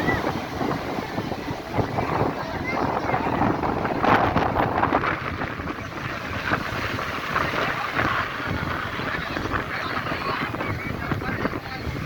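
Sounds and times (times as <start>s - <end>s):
rough surf: 0.0s - 12.0s
wind buffeting microphone: 0.0s - 12.0s.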